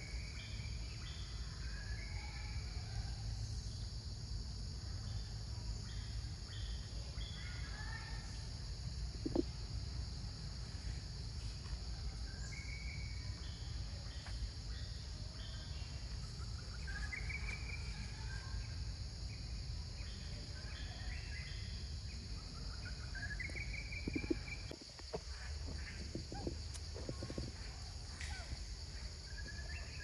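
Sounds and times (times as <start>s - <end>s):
high insect drone: 0.0s - 30.0s.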